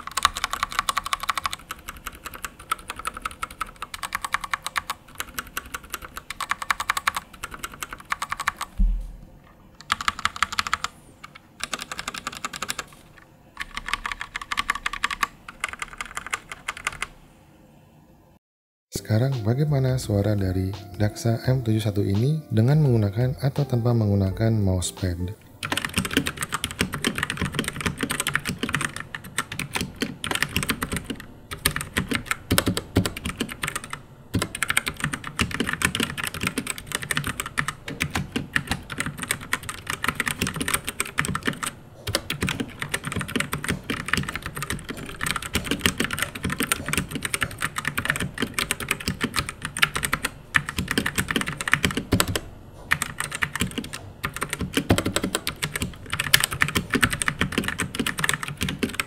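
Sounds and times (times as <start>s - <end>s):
mechanical keyboard typing: 0.0s - 8.8s, 9.8s - 13.0s, 13.6s - 17.1s, 25.6s - 59.0s.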